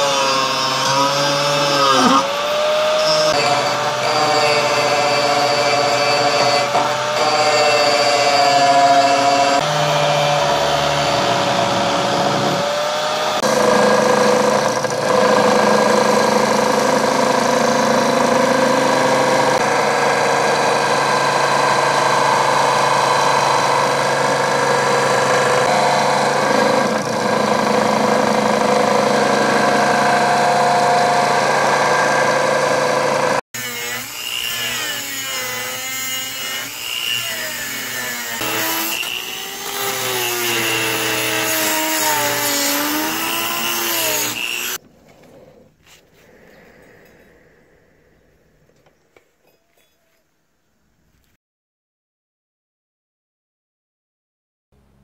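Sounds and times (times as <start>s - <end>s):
belt grinder grinding steel: 0.0s - 44.8s
angle grinder whine: 0.0s - 44.9s
die grinder wavering whine: 0.0s - 47.6s.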